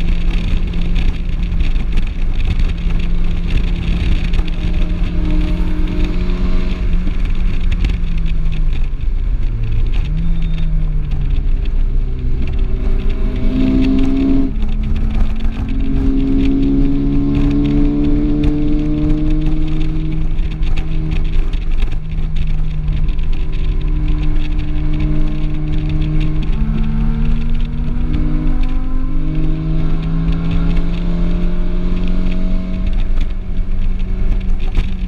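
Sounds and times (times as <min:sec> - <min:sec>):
car engine revving: 0:00.0 - 0:35.0
road noise: 0:00.0 - 0:35.0
wind noise: 0:00.0 - 0:35.0.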